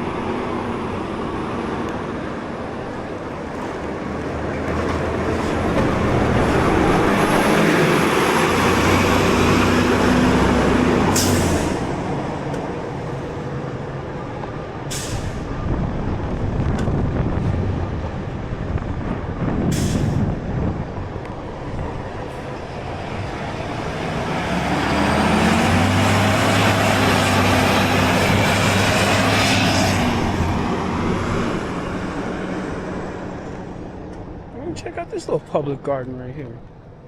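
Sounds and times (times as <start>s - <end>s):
heavy vehicle passing: 0.0s - 35.0s
street traffic: 0.0s - 37.0s.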